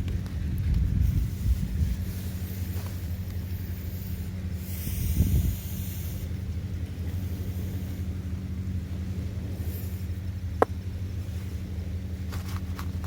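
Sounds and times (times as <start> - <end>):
wind rumbling on microphone: 0.0 - 13.0
surf hissing: 0.9 - 12.2.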